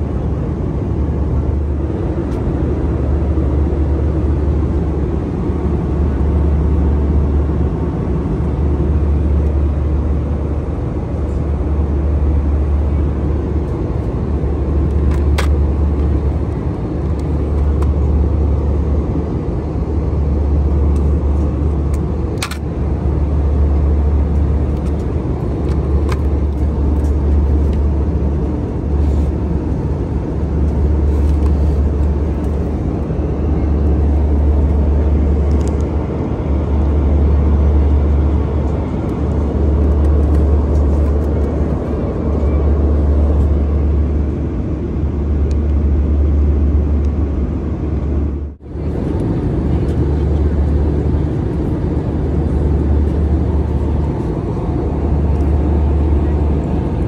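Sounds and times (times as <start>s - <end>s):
aircraft cabin drone: 0.0s - 57.0s.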